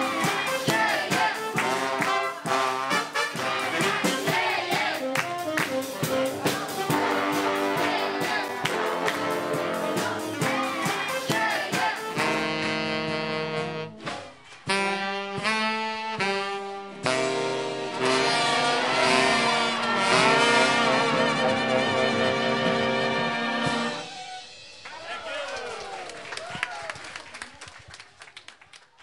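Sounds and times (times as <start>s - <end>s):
big band jazz: 0.0s - 25.3s.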